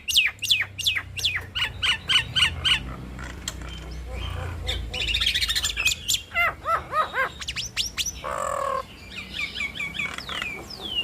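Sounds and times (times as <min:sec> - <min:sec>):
bird chatter of sharp notes: 0:00.0 - 0:11.0
starlings singing: 0:00.0 - 0:11.0.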